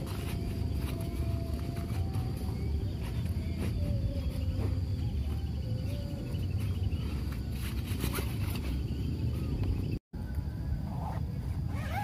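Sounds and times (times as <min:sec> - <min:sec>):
insects chirping trill: 0:00.0 - 0:12.0.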